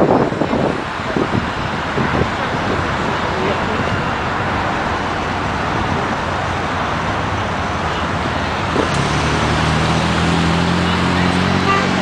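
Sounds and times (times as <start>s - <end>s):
bus driving: 0.0s - 12.0s
cars moving through intersection: 0.0s - 12.0s.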